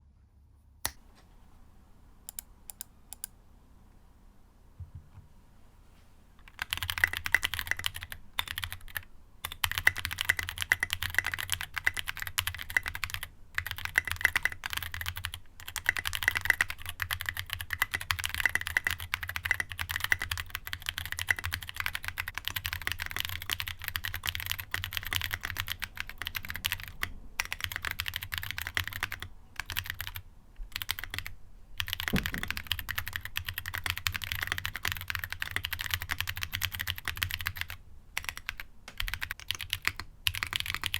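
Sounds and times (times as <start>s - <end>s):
fast typing on mechanical keyboard: 6.4s - 40.9s.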